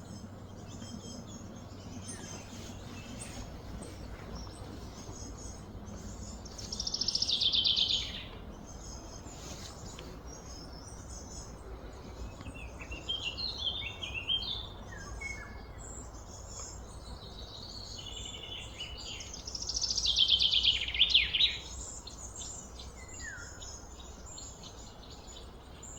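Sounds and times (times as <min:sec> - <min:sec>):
low background hum: 0:00.0 - 0:25.9.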